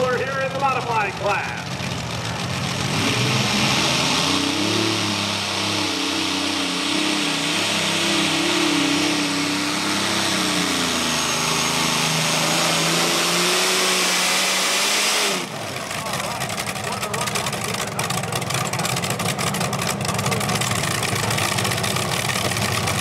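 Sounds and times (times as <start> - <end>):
tractor engines at full throttle: 0.0 - 23.0.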